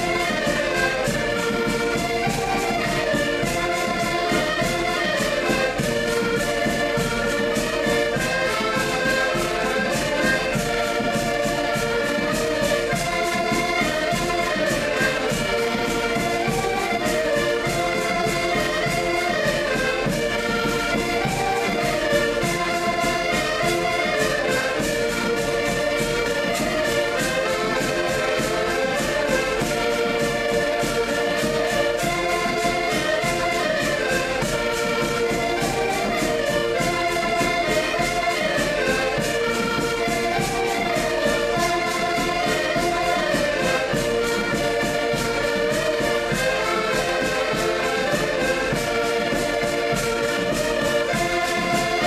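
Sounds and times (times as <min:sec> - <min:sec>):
accordion folk music: 0:00.0 - 0:52.0.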